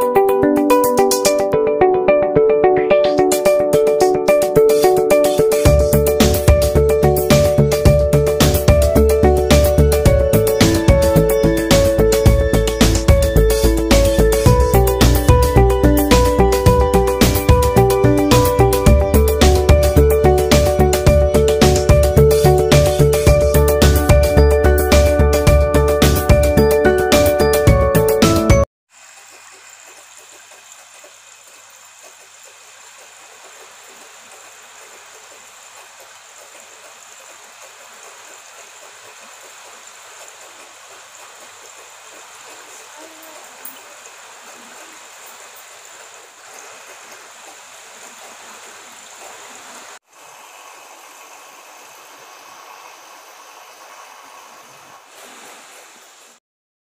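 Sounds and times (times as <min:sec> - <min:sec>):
fountain water trickling: 0:03.2 - 0:26.4, 0:28.9 - 0:56.4.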